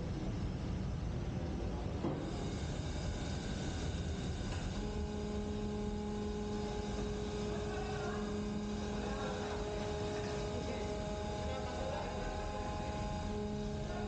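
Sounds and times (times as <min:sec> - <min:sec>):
hydraulic pump machinery drone: 0:00.0 - 0:14.0.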